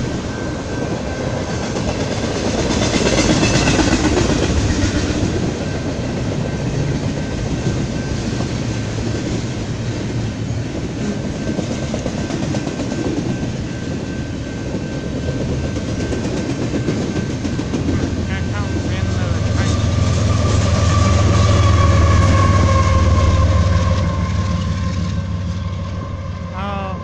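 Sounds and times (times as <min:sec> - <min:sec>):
train wheels rumbling on rails: 0:00.0 - 0:26.5.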